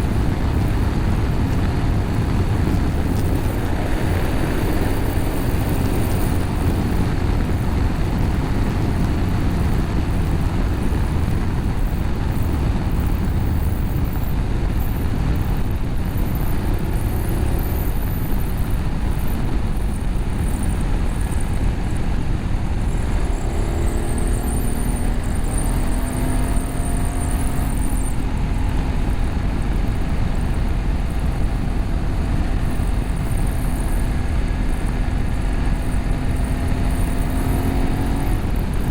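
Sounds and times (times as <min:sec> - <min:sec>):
motorcycle engine at speed: 0:00.0 - 0:38.9
wind rush on microphone: 0:00.0 - 0:38.9.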